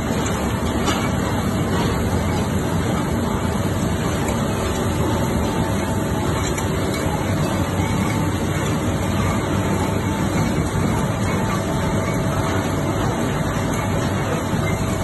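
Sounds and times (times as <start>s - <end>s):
faint constant hum: 0.0s - 15.0s
oil expeller mechanical drone: 0.0s - 15.0s.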